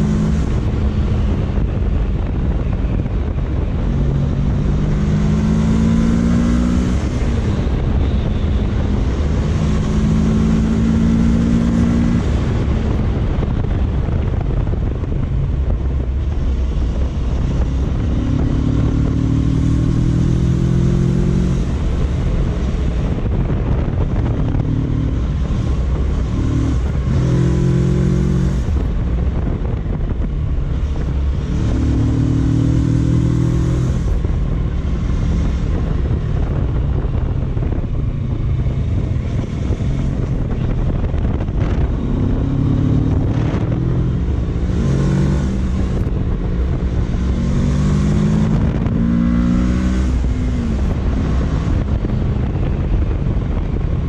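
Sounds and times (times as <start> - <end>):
motorcycle engine accelerating: 0.0 - 54.0
wind rumble on microphone: 0.0 - 54.0.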